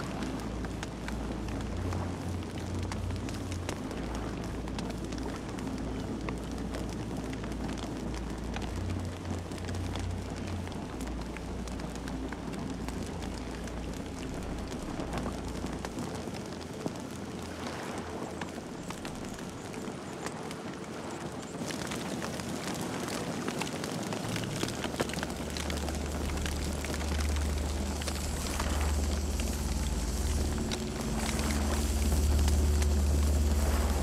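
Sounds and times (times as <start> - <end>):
low rumble: 0.0 - 19.6, 24.2 - 34.0
campfire crackling and popping: 0.0 - 34.0.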